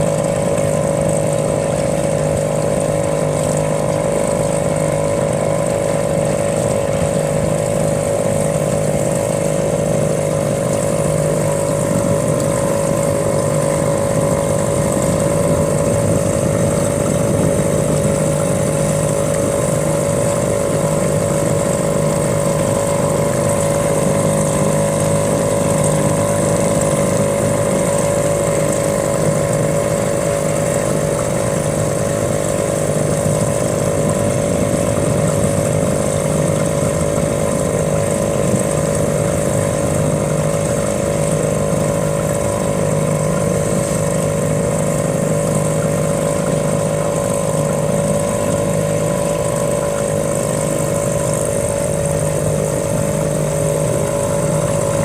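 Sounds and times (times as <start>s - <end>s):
small boat motor droning: 0.0s - 55.0s.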